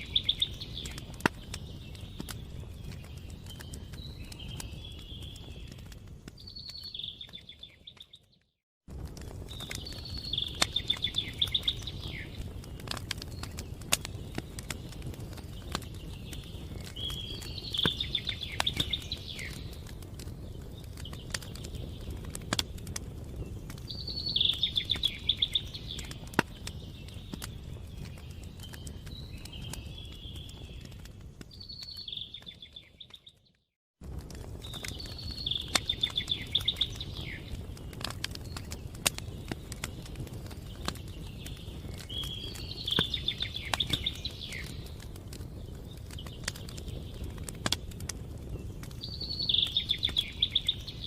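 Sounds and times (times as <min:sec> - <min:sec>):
birds singing trills: 0:00.0 - 0:08.4, 0:09.2 - 0:33.6, 0:34.5 - 0:51.0
campfire crackling: 0:00.0 - 0:51.0.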